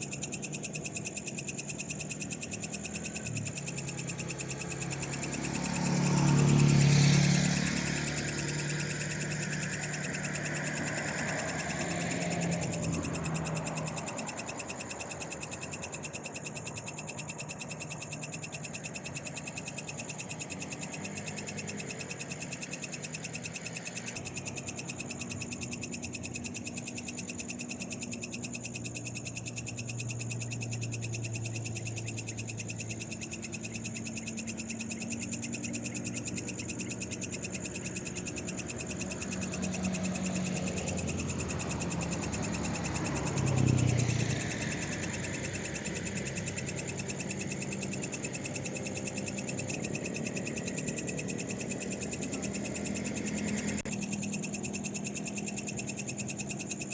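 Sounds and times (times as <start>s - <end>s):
frogs calling: 0.0s - 56.9s
insects trilling: 0.0s - 56.9s.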